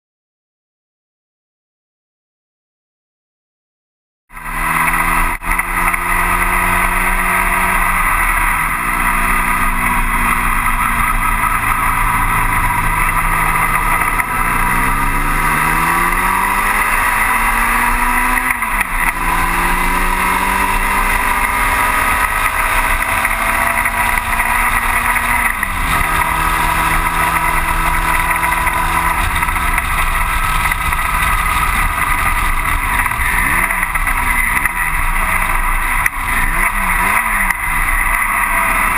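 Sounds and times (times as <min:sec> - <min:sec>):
racing car engine revving: 0:04.3 - 0:38.9
rush of noise: 0:04.3 - 0:38.9.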